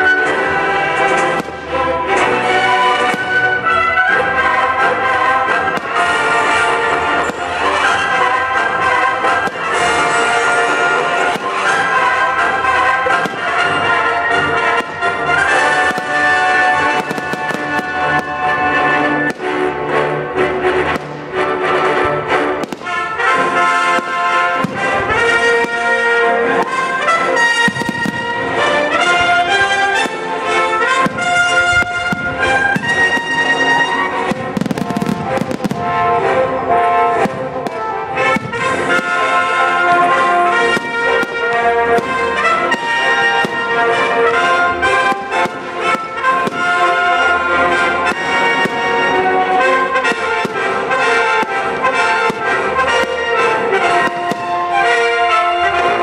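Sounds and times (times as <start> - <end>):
brass music: 0.0 - 56.0
fireworks banging and crackling: 0.0 - 56.0.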